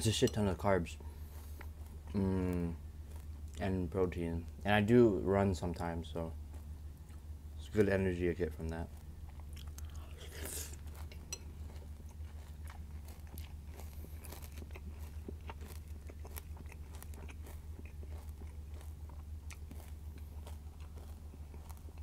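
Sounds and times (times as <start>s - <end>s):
steady low hum: 0.0s - 22.0s
crunchy cereal chewing: 0.8s - 4.7s, 6.4s - 22.0s.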